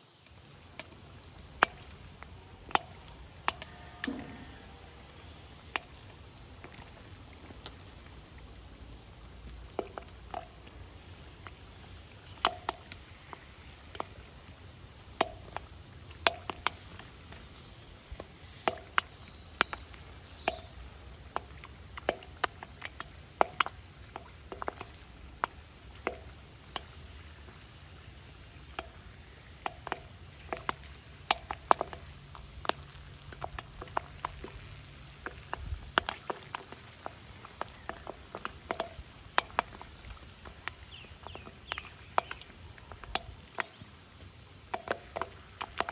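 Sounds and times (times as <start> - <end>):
popcorn popping in hot oil: 0.0 - 45.9.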